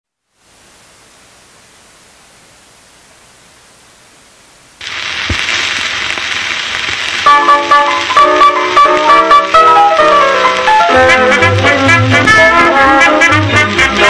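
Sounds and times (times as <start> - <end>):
faint playback hiss: 0.1 - 14.0
record surface hiss and crackle: 0.1 - 14.0.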